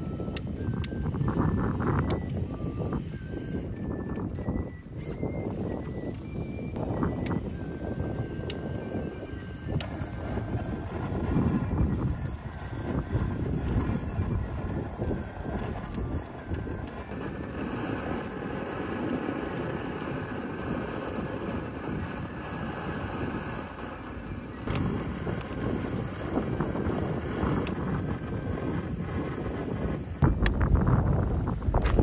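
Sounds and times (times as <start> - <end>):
blowtorch flame hissing: 0.0 - 4.0, 6.2 - 30.2
wind noise on microphone: 0.0 - 32.0.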